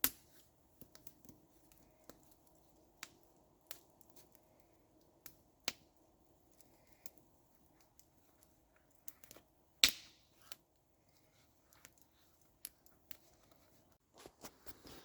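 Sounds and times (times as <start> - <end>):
campfire crackling and popping: 0.0 - 13.9.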